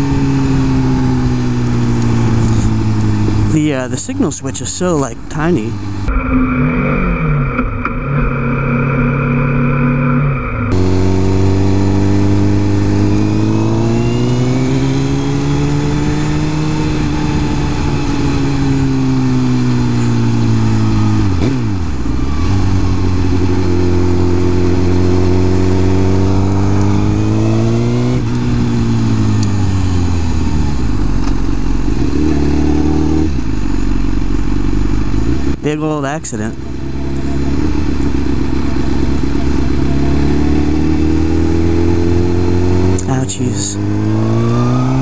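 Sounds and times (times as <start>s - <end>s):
motorcycle engine revving: 0.0s - 4.4s, 5.3s - 45.0s.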